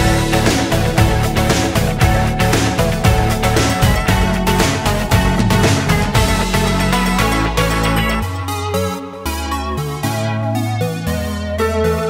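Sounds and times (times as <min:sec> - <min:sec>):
music with driving beat: 0:00.0 - 0:11.8.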